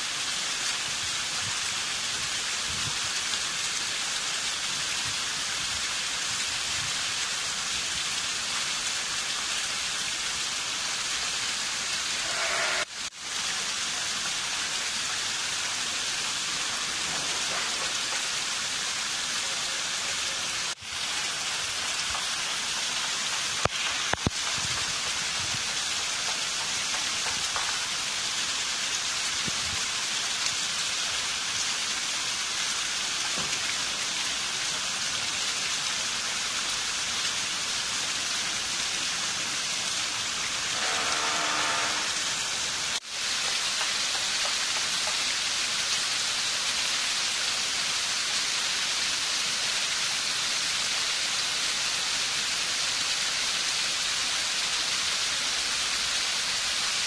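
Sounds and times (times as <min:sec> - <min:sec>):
waterfall splashing on stone: 0:00.0 - 0:57.0.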